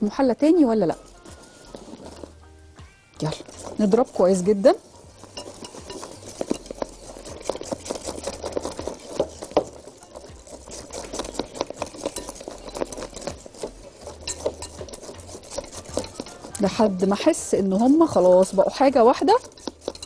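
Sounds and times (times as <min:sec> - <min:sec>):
whisk clicking and scraping in glass bowl: 0:00.0 - 0:20.0.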